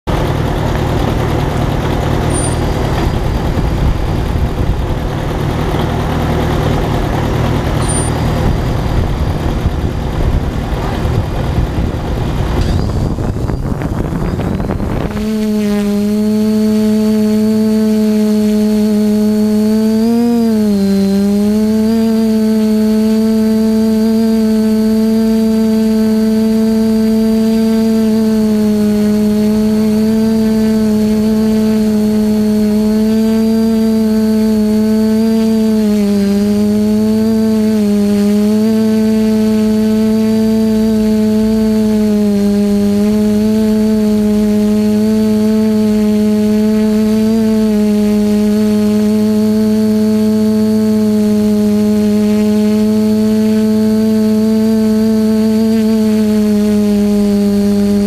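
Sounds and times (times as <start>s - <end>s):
drone propellers humming: 0.0s - 58.0s
high motor whine: 0.0s - 58.0s
tractor engine running rough: 0.0s - 58.0s.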